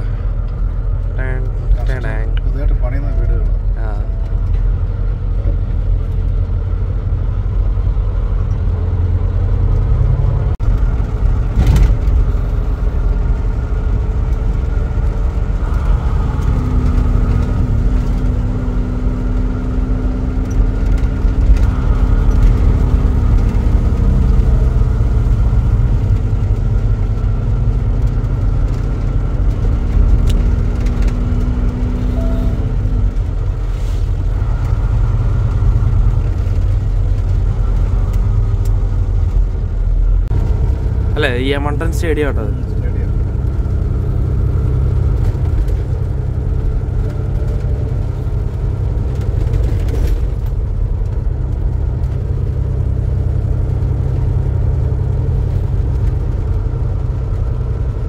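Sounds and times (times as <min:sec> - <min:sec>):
engine and road rumble: 0:00.0 - 0:58.0.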